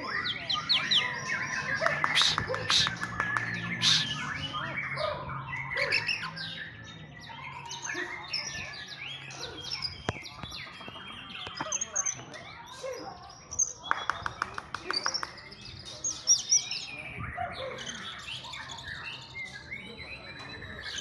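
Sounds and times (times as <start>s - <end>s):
birds singing: 0.0s - 21.0s.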